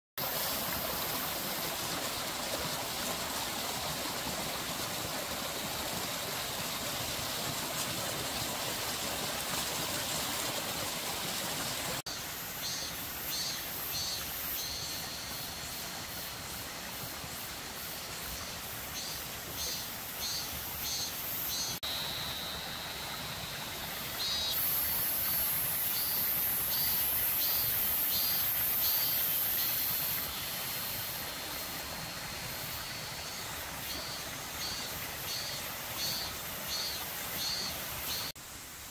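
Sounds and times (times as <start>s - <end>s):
high hiss: 0.2s - 38.9s
stream water flowing: 0.2s - 38.9s.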